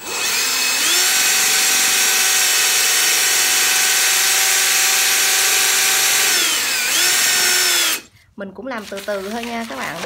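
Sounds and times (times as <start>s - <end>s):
cordless drill motor whine: 0.0s - 8.1s.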